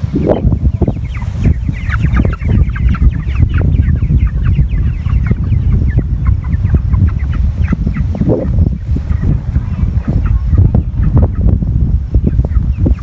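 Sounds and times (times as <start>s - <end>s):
chickens clucking: 0.0s - 13.0s
heavy low rumble: 0.0s - 13.0s.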